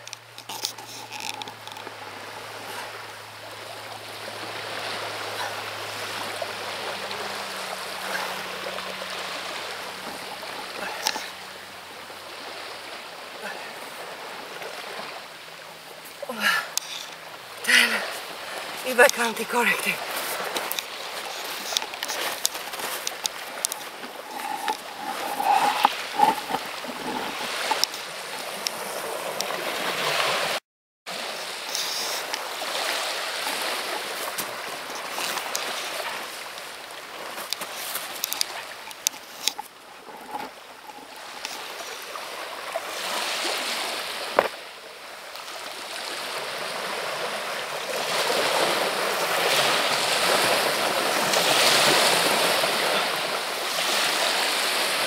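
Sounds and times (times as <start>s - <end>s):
surf washing over pebbles: 0.0s - 55.0s.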